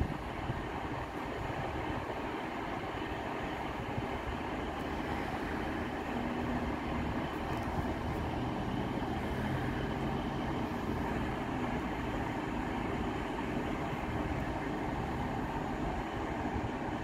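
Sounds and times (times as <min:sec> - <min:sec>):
diesel train engine rumble: 0:00.0 - 0:17.0.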